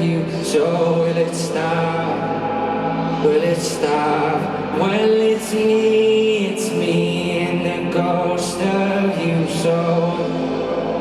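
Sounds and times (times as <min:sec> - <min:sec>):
live pop concert music: 0:00.0 - 0:11.0.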